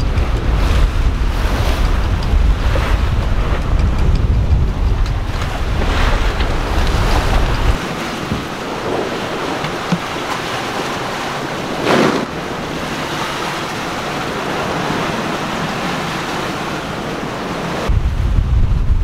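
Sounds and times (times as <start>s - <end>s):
water rushing past hull: 0.0s - 19.0s
wind: 0.0s - 19.0s.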